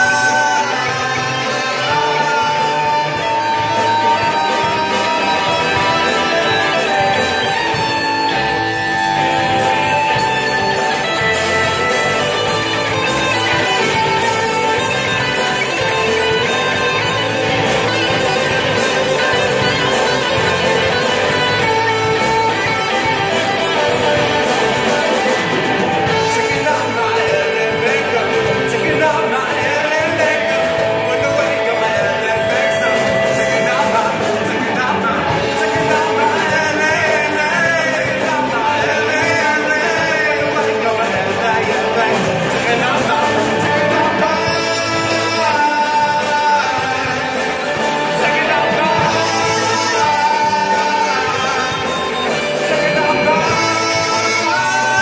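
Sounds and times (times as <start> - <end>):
person singing: 0.0 - 55.0
rock band playing: 0.0 - 55.0.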